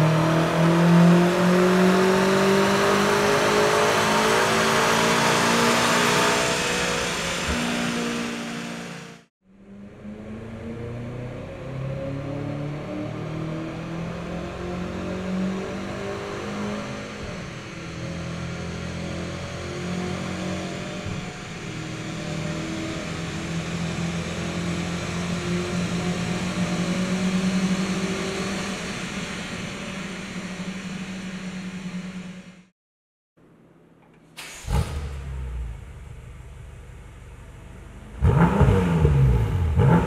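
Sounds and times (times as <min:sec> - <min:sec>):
car engine at full throttle: 0:00.0 - 0:32.7, 0:34.4 - 0:40.0
thin rising whine: 0:00.0 - 0:32.7.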